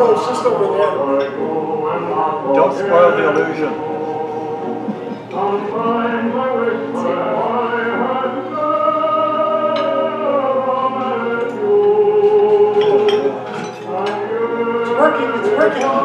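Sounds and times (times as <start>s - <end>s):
person singing with accompaniment: 0.0s - 16.0s.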